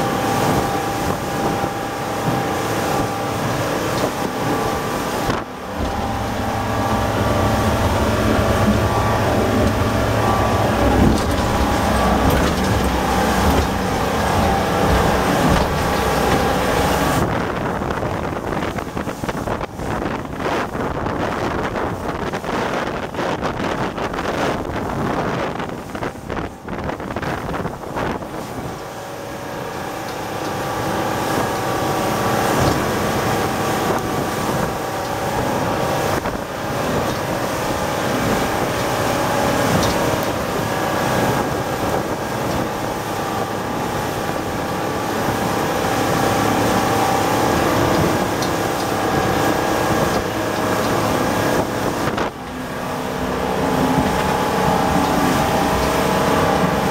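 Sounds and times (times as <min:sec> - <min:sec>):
boat engine drone: 0:00.0 - 0:56.9
water rushing past hull: 0:00.0 - 0:56.9
wind buffeting microphone: 0:00.0 - 0:56.9.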